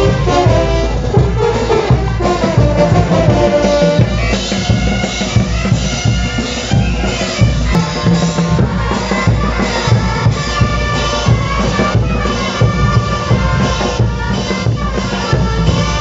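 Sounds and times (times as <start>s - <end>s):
bass drum beat: 0.0s - 16.0s
trumpets and tubas: 0.0s - 16.0s.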